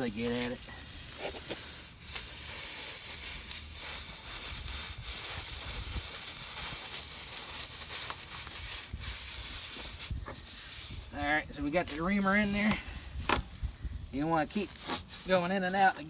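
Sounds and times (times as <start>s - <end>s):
air hissing from tire: 0.0s - 16.0s.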